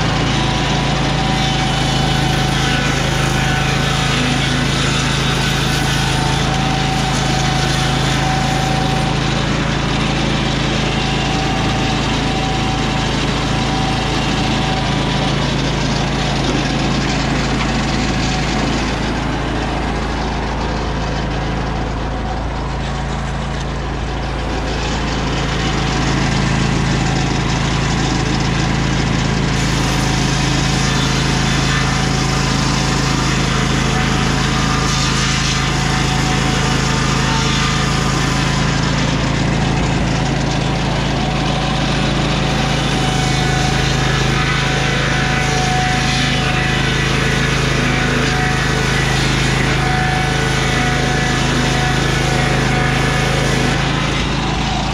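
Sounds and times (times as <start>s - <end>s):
circular saw blade ripping wood: 0.0s - 54.9s
engine running: 0.0s - 54.9s.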